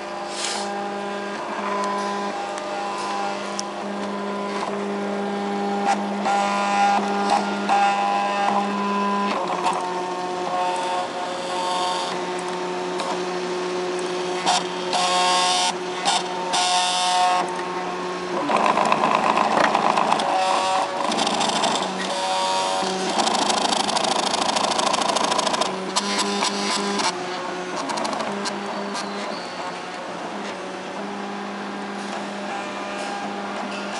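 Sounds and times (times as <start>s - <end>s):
stepper motors whining: 0.0s - 33.9s.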